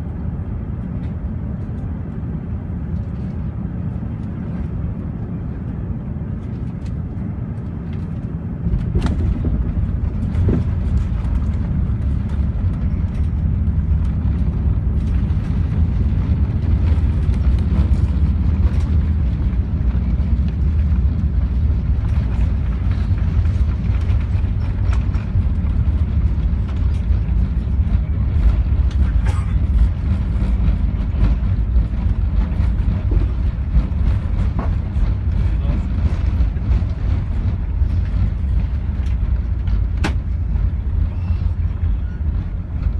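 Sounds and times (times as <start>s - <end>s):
aircraft cabin engine rumble: 0.0s - 42.9s.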